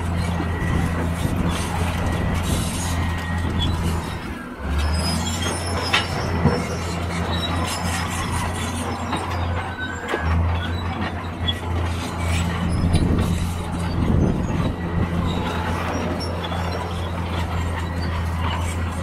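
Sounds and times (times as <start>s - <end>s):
excavator diesel engine humming: 0.0s - 19.0s.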